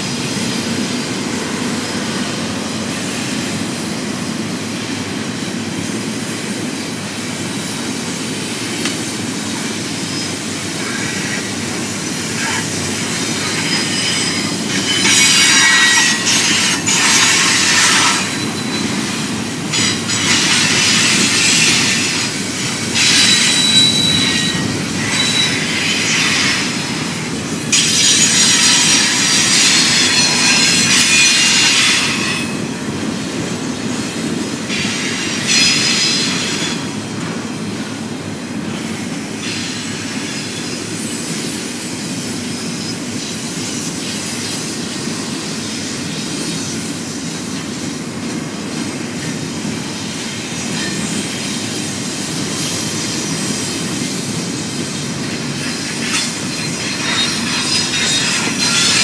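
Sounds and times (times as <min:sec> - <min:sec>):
freight train rumbling past: 0:00.0 - 0:59.0
train wheels squealing: 0:00.0 - 0:59.0.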